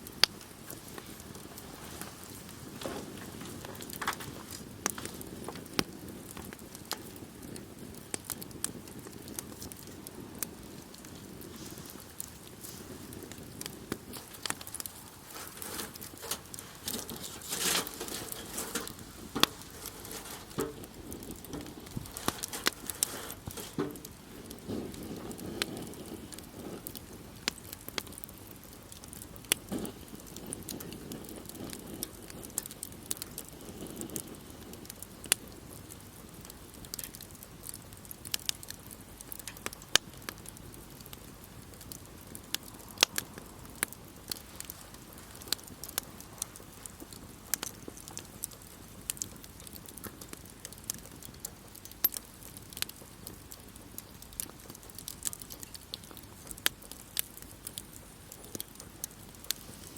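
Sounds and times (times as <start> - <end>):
campfire crackling: 0.0 - 59.9
faint steady hiss: 0.0 - 59.9.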